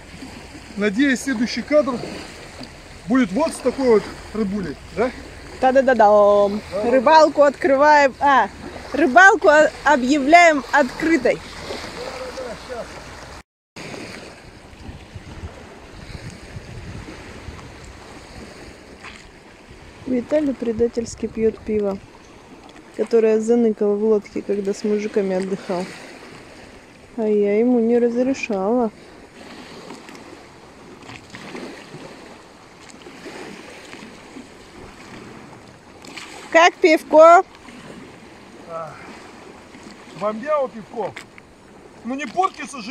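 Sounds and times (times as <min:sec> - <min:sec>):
water lapping and sloshing: 0:00.0 - 0:42.9
waves washing: 0:00.0 - 0:42.9
wind buffeting microphone: 0:00.0 - 0:42.9.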